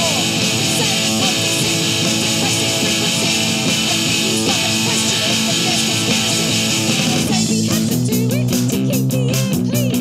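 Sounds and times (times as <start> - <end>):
electric guitar chords: 0.0 - 10.0
fast drum beat: 0.0 - 10.0
woman singing: 0.0 - 10.0.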